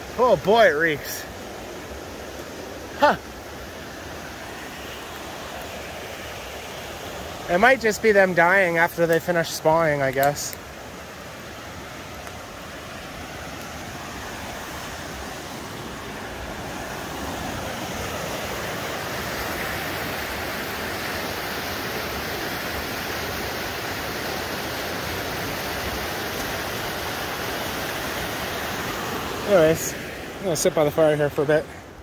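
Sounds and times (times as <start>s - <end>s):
river water rushing over rocks: 0.0s - 32.0s.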